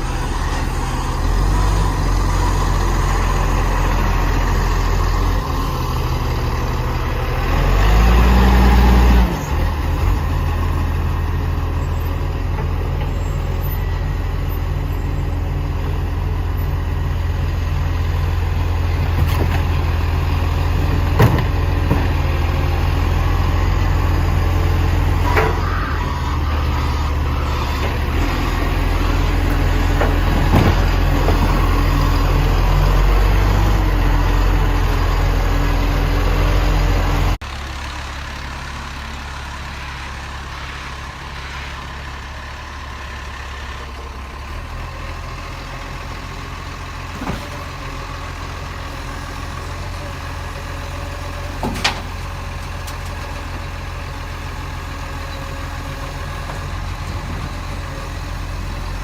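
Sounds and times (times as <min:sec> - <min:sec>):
garbage truck engine rumbling: 0:00.0 - 0:59.0.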